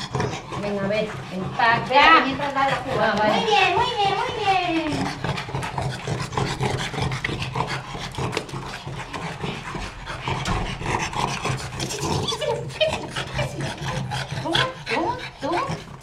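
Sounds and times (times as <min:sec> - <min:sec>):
dog panting rapidly: 0:00.0 - 0:16.0.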